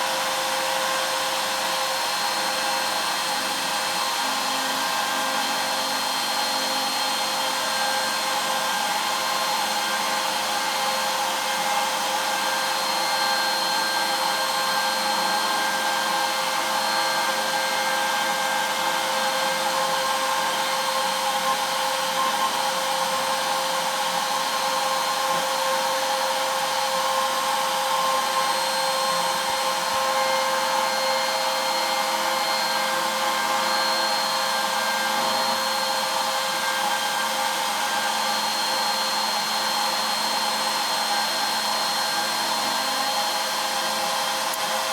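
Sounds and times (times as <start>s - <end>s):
router spindle whining: 0.0s - 44.9s.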